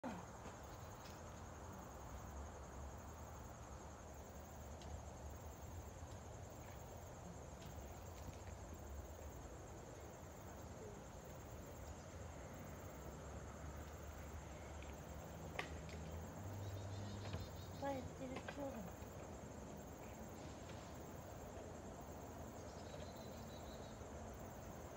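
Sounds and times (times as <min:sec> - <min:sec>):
high insect trill: 0:00.0 - 0:24.9.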